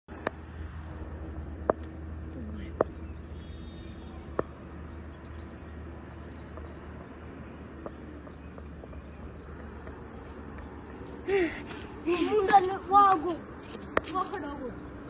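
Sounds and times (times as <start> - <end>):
low hum: 0.1 - 13.6.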